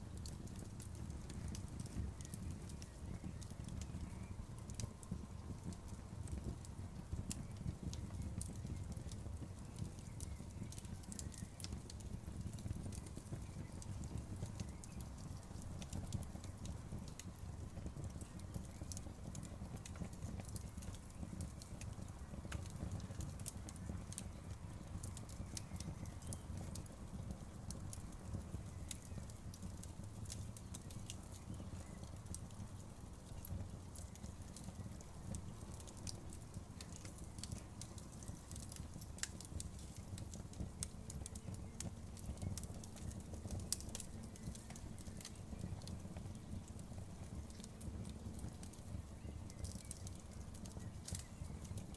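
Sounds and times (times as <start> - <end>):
campfire crackling and popping: 0.0 - 51.9
low rumble of flames: 0.0 - 51.9.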